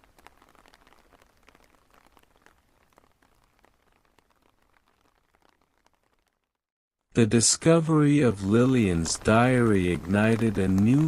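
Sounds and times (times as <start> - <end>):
faint rain hiss: 0.0 - 6.5, 7.2 - 11.0
raindrop ticks: 0.0 - 6.6, 7.7 - 11.0.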